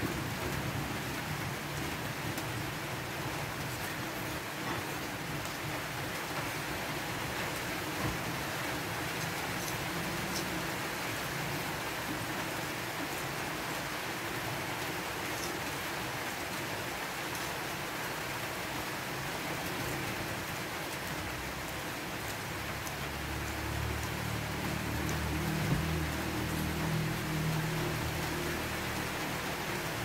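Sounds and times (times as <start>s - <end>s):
steady rushing hiss: 0.0s - 30.0s.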